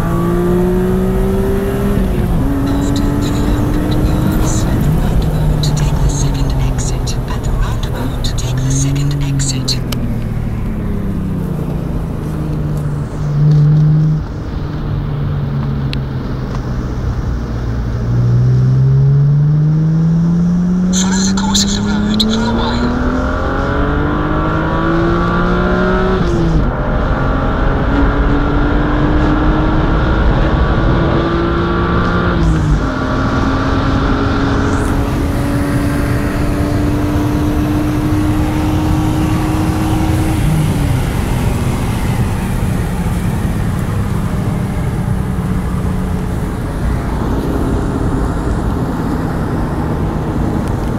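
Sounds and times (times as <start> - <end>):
car engine accelerating through gears: 0.0 - 50.9.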